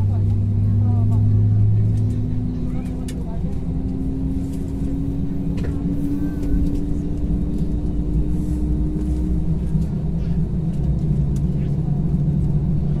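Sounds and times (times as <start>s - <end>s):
aircraft engines idling: 0.0s - 13.0s
low rumble: 0.0s - 13.0s.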